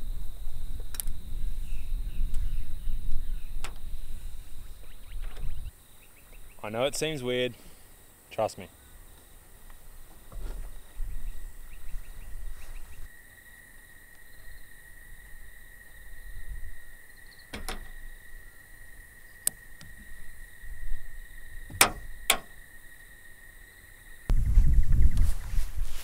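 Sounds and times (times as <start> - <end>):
high insect drone: 0.0 - 25.2.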